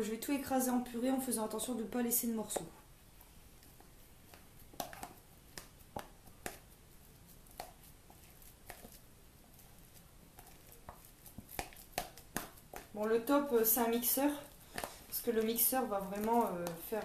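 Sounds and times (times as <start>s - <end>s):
fork mashing bananas: 2.4s - 17.0s.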